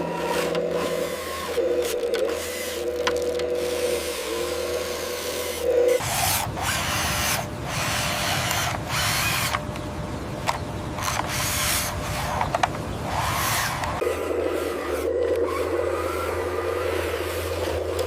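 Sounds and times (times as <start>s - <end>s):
small electric motor whirring: 0.0s - 9.6s, 10.4s - 18.0s.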